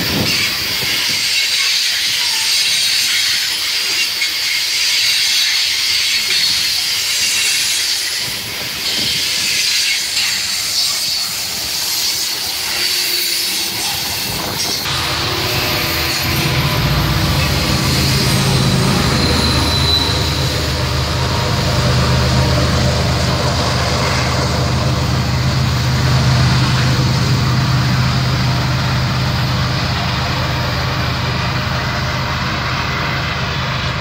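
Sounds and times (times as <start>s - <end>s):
diesel locomotive engine drone: 0.0s - 34.0s
high wheel squeal: 0.0s - 34.0s
rolling wheel and rail noise: 0.0s - 34.0s.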